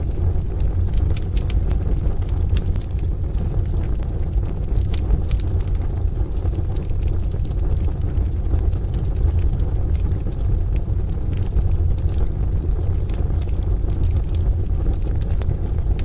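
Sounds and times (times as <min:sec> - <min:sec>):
deep low rumble: 0:00.0 - 0:16.0
wood fire crackling and popping: 0:00.0 - 0:16.0.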